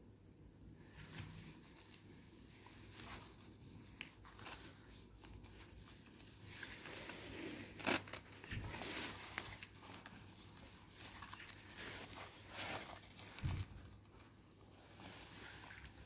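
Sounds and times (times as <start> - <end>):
leather boot crinkling and rustling: 1.0 - 16.0.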